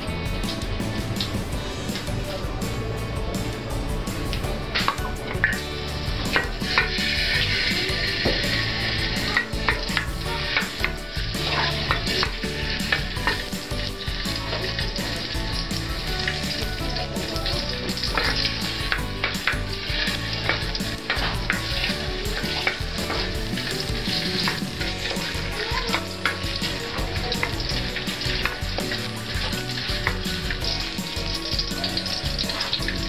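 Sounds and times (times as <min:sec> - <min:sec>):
food sizzling in hot oil: 0:04.0 - 0:33.0
spatula scraping and tapping wok: 0:04.8 - 0:33.0.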